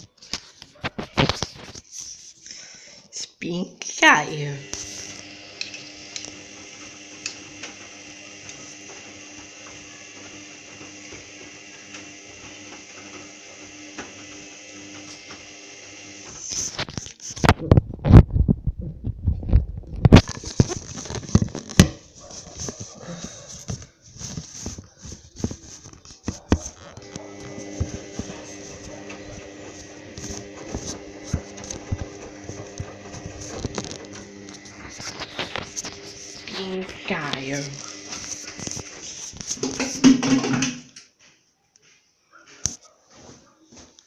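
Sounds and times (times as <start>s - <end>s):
washing machine hum: 4.1s - 16.6s, 17.6s - 41.0s.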